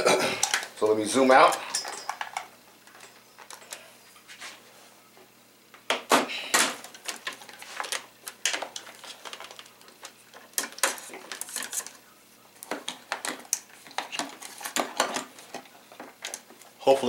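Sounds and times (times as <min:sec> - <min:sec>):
handling clicks and knocks: 0:00.3 - 0:03.8, 0:05.7 - 0:12.0, 0:12.6 - 0:16.7.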